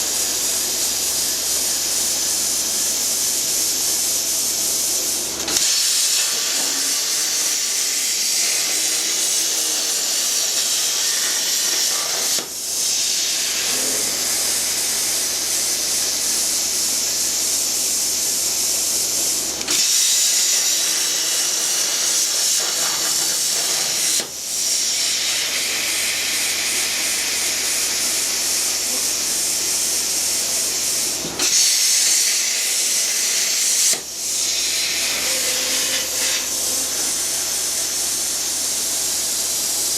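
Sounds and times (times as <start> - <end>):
plasma cutter hissing: 0.0 - 39.9.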